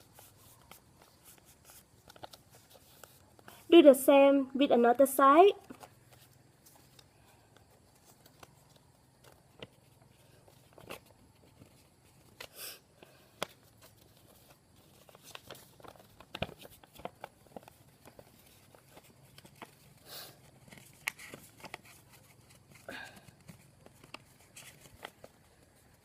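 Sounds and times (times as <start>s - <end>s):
paper rustling and crinkling: 0.0s - 3.7s, 5.6s - 26.0s.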